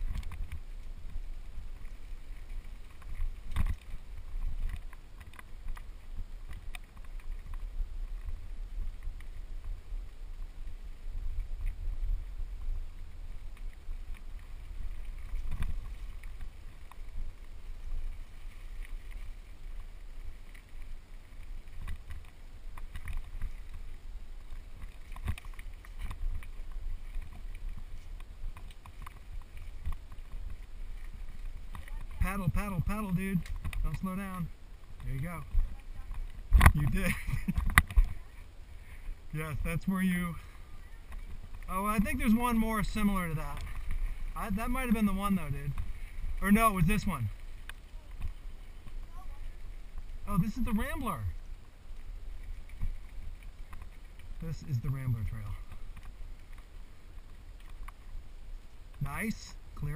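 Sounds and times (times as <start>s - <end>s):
wind rumble on microphone: 0.0s - 59.9s.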